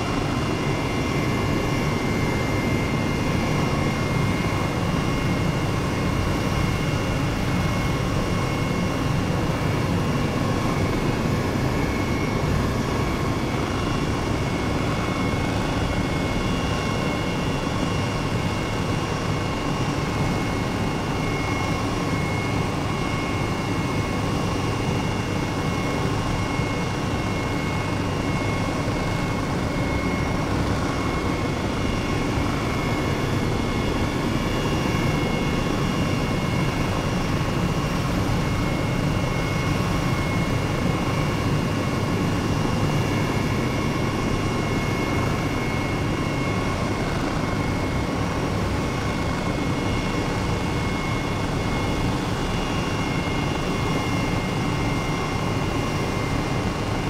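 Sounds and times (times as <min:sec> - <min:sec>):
helicopter in flight: 0:00.0 - 0:57.0.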